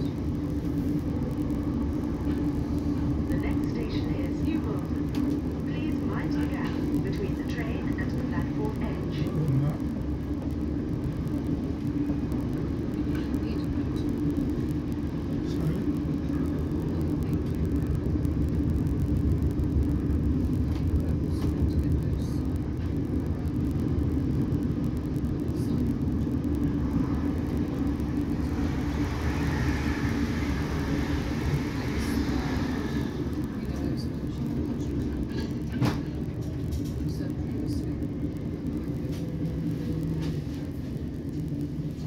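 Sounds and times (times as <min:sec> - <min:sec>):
train wheels rumbling on track: 0:00.0 - 0:42.0.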